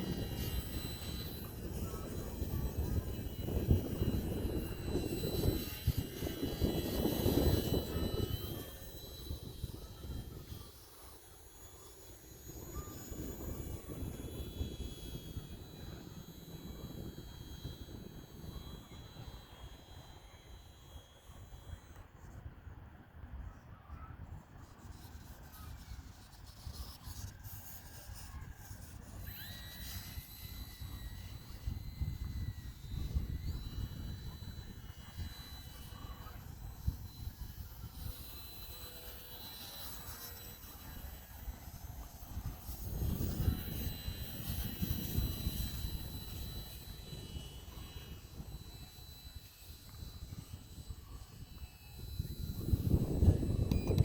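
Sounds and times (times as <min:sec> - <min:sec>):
wind buffeting microphone: 0:00.0 - 0:22.8, 0:23.9 - 0:54.0
electric motor whine: 0:00.0 - 0:54.0.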